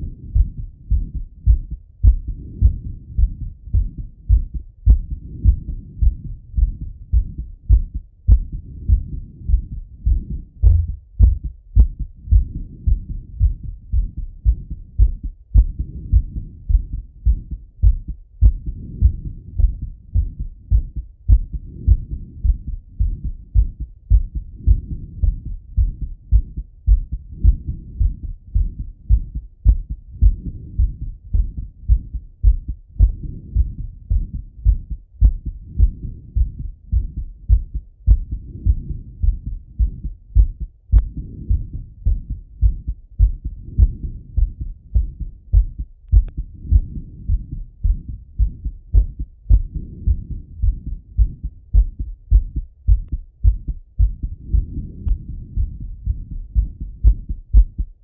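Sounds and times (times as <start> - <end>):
heartbeat through stethoscope: 0.0 - 58.0.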